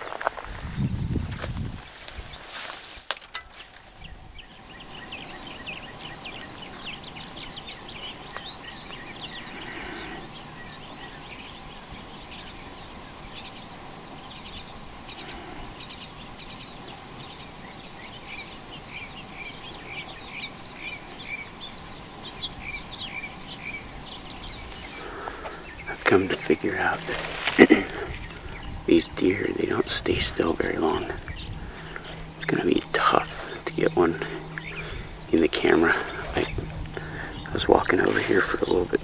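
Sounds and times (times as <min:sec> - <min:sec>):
outdoor background hiss: 0:00.0 - 0:39.0
small birds chirping: 0:00.0 - 0:39.0.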